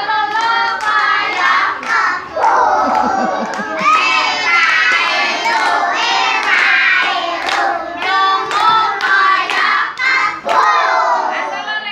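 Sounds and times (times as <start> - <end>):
children singing: 0.0 - 11.6
children clapping: 0.2 - 11.0.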